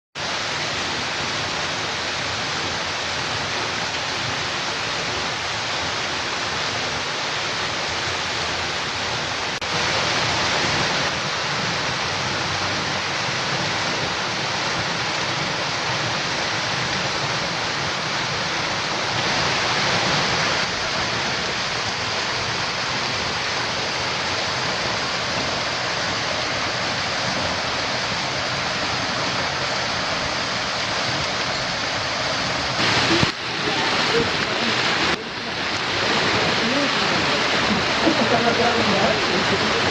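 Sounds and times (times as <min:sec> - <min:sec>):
waterfall rushing: 0:00.2 - 0:39.9.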